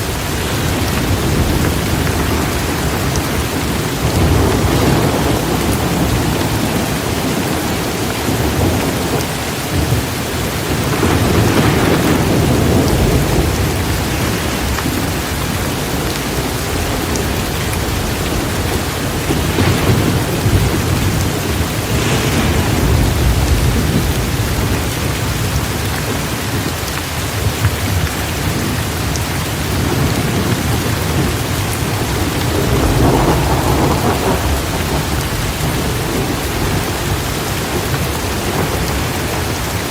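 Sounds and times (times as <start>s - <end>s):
heavy rain pouring: 0.0s - 39.9s
thunder rumbling: 0.0s - 39.9s.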